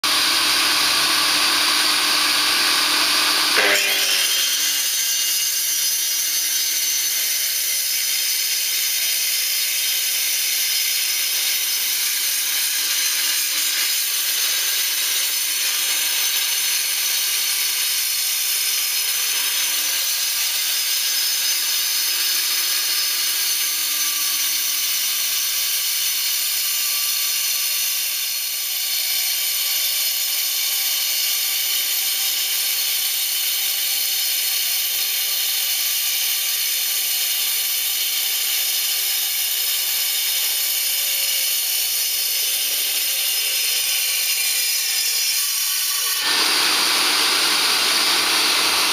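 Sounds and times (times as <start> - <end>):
angle grinder cutting concrete: 0.0 - 48.9.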